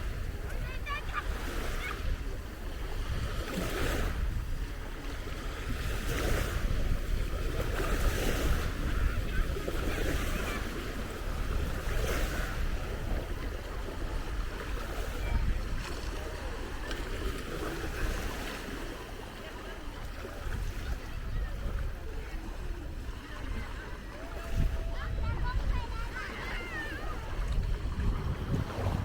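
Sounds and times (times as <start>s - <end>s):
wind rumbling on microphone: 0.0s - 18.4s, 20.3s - 29.0s
sea waves breaking on beach: 0.0s - 29.0s.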